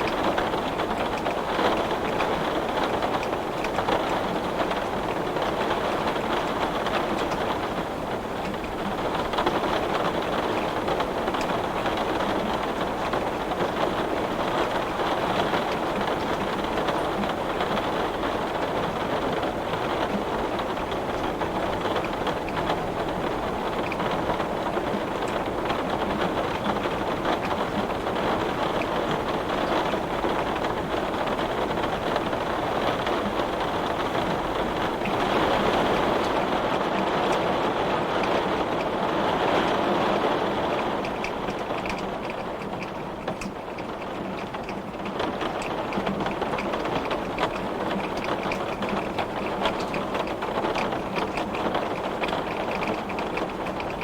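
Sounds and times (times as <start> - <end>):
rain pattering on window glass: 0.0 - 54.0.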